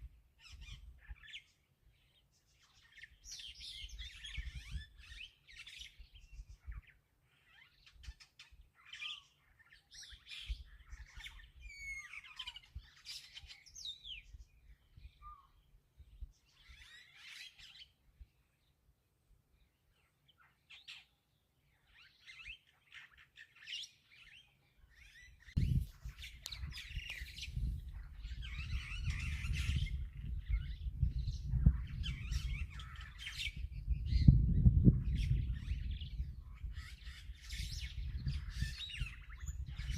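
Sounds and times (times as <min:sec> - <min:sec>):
birds chirping: 0:00.0 - 0:18.9, 0:19.5 - 0:39.9.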